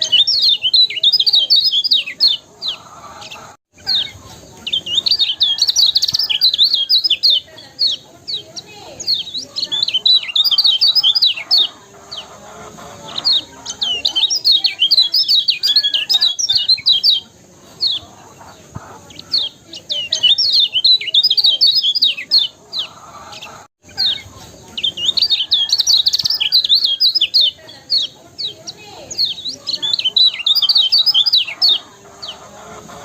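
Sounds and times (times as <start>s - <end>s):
songbird twittering: 0.0s - 33.0s.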